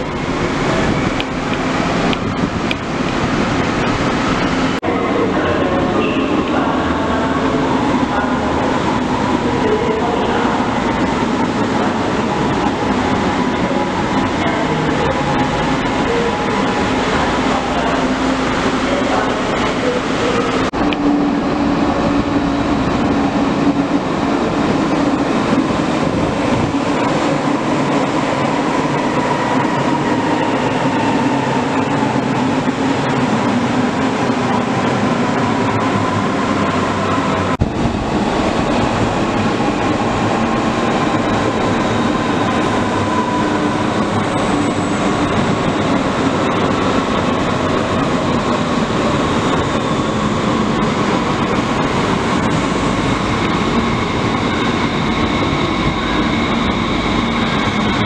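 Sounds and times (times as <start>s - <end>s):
train rail rumble: 0.0s - 58.0s.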